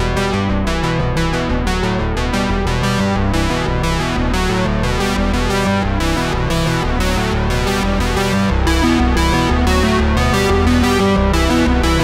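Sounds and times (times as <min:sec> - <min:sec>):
synthesizer and keyboard music: 0:00.0 - 0:12.0.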